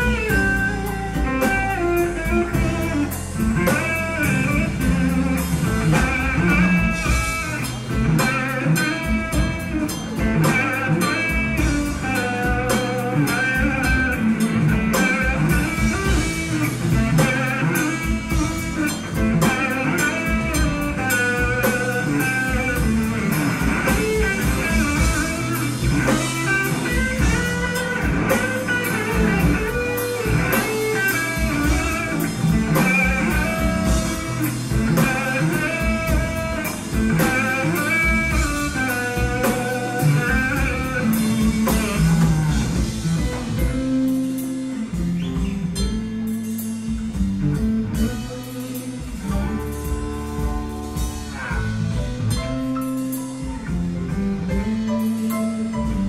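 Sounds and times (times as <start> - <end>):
blues-rock guitar music: 0.0 - 56.0
drum kit beat: 0.0 - 56.0.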